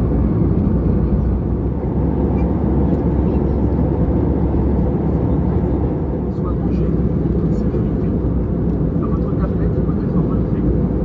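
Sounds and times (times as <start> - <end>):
aircraft engine roar in cabin: 0.0 - 11.0.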